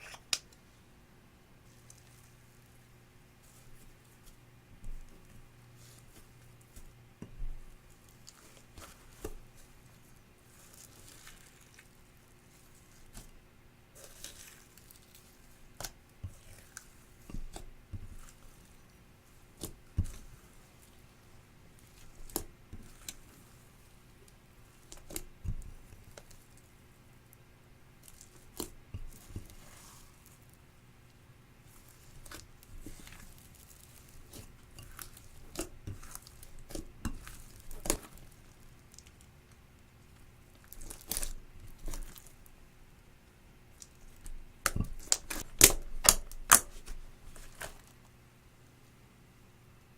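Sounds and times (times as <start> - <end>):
slime squelching: 1.6 - 26.8, 28.0 - 30.6, 31.6 - 42.6, 43.7 - 48.0.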